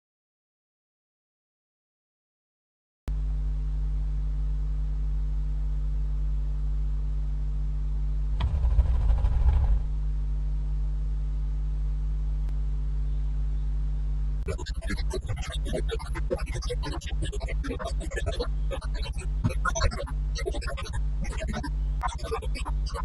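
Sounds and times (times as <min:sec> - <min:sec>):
steady low hum: 0:03.1 - 0:23.0.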